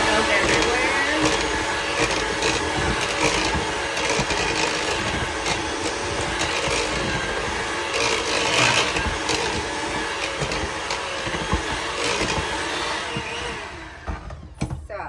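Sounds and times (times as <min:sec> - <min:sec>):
electric hand mixer humming: 0:00.0 - 0:15.0.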